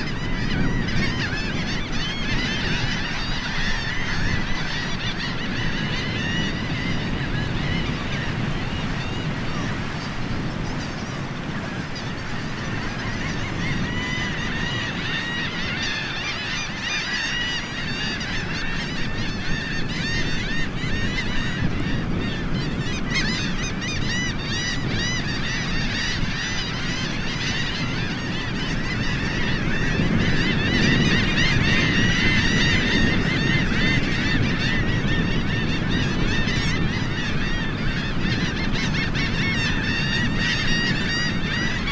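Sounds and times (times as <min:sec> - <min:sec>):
flock of shorebirds calling: 0:00.0 - 0:41.9.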